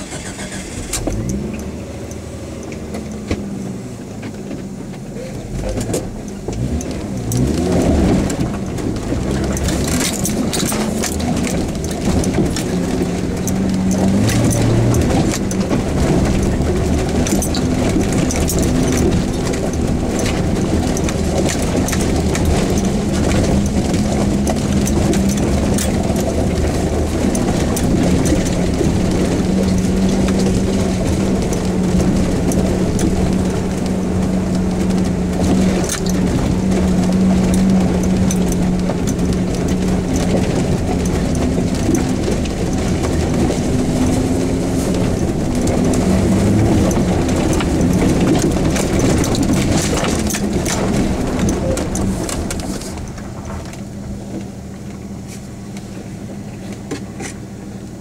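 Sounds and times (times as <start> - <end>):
engine drone inside cab: 0.0 - 58.0
body rattles and knocks: 1.0 - 58.0
tyres over stones: 2.6 - 55.9.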